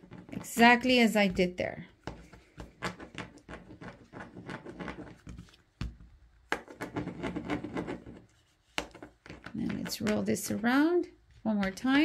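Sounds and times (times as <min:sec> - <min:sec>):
hands rubbing clay: 0:00.0 - 0:12.0.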